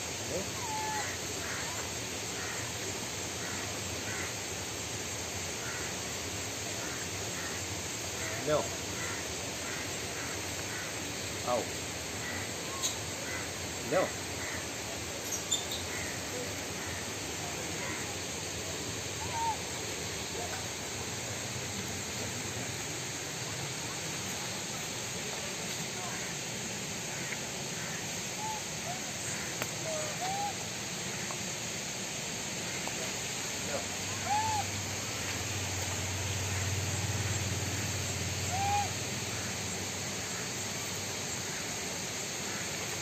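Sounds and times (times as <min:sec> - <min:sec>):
steady outdoor hiss: 0:00.0 - 0:43.0
faint bird calls: 0:00.1 - 0:04.4, 0:05.5 - 0:31.6, 0:32.6 - 0:43.0.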